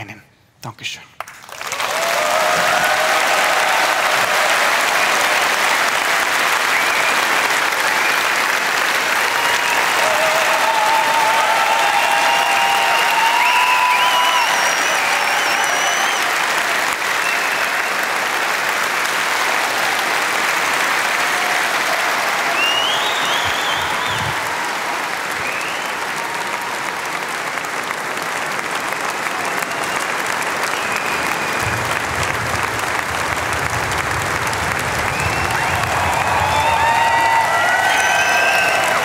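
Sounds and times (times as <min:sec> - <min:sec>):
audience applauding: 0:01.2 - 0:39.0.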